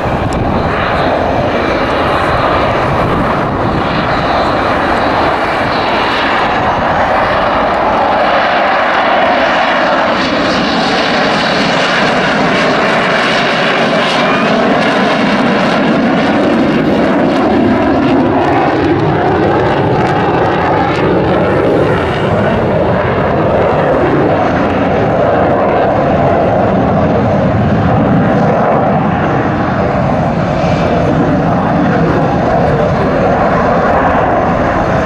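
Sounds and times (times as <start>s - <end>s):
fighter jet engine roar: 0.0s - 35.0s.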